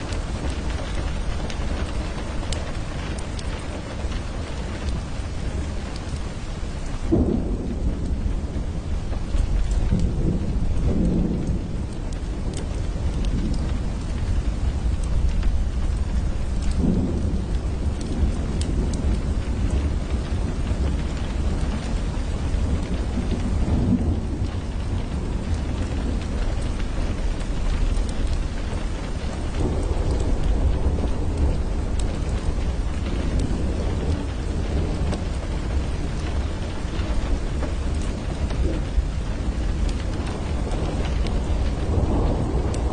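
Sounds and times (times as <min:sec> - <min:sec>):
rain on window glass: 0:00.0 - 0:42.9
thunder rumbling: 0:00.0 - 0:42.9.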